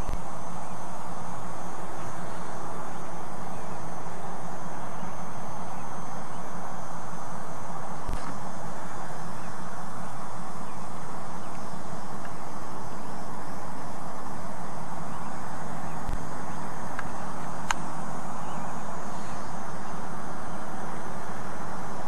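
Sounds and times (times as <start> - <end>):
faint bird chirps: 0.0 - 7.4, 8.0 - 21.3
distant locomotive drone: 0.0 - 22.0
steady hiss: 0.0 - 22.0.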